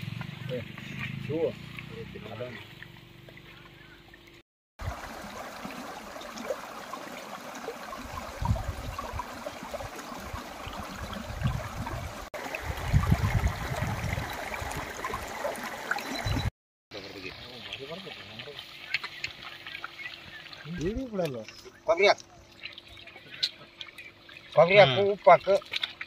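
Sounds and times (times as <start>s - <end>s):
stream running over stones: 0.0s - 26.0s.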